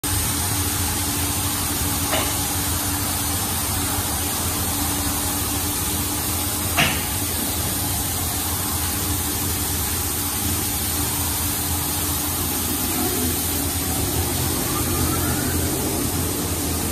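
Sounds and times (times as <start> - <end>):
car wash machine hum: 0.0 - 16.9
water spraying hiss: 0.1 - 16.9.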